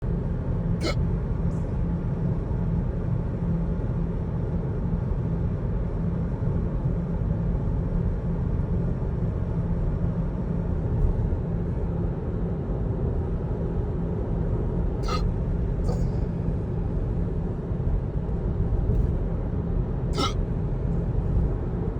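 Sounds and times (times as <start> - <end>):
road and engine noise in car: 0.0 - 21.9.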